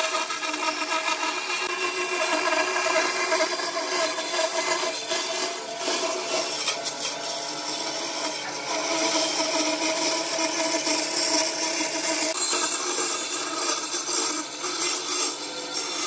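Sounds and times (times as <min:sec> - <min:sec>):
band saw cutting wood: 0:00.0 - 0:16.0.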